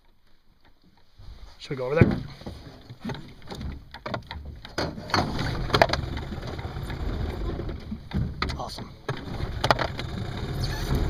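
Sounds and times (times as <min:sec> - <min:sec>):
knocks and rattles inside metal boat: 0:01.8 - 0:11.0.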